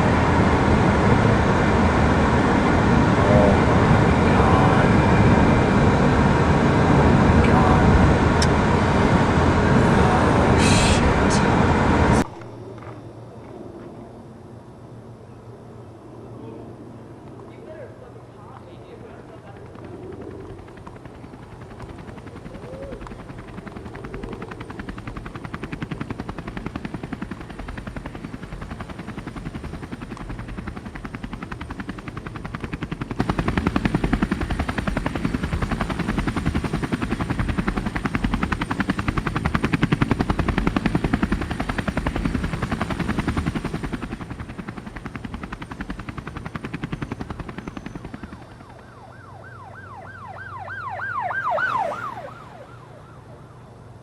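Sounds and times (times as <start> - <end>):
helicopter rotor chopping: 0.0 - 12.4, 18.4 - 53.1.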